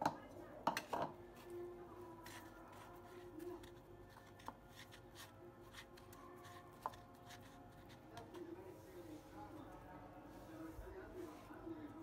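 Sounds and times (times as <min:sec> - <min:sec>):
rustling and scraping in a bowl: 0:00.8 - 0:12.0.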